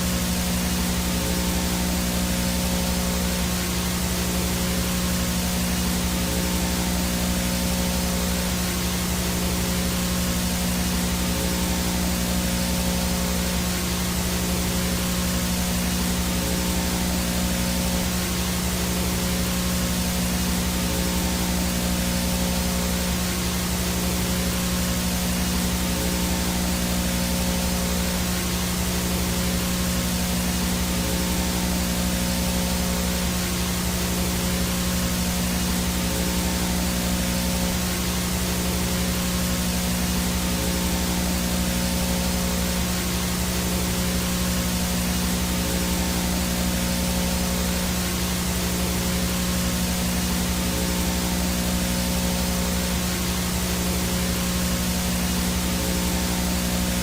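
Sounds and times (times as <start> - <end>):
high-pitched whine: 0.0 - 57.0
low electrical buzz: 0.0 - 57.0
static hiss: 0.0 - 57.0.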